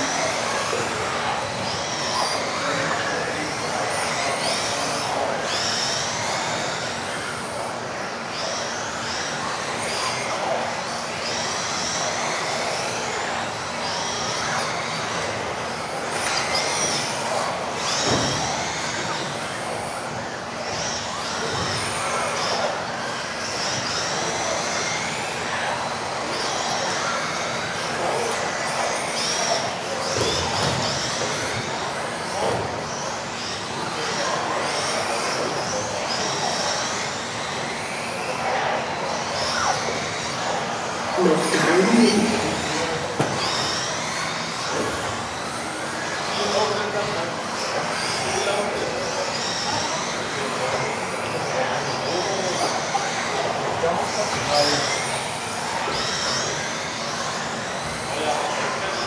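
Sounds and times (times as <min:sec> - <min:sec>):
rc car motors whining: 0:00.0 - 0:59.0.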